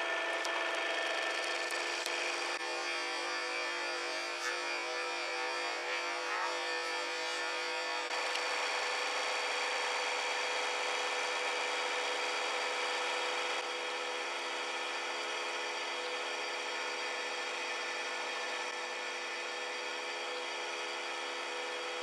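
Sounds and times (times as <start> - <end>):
hydraulic press hum and whine: 0.0 - 22.0.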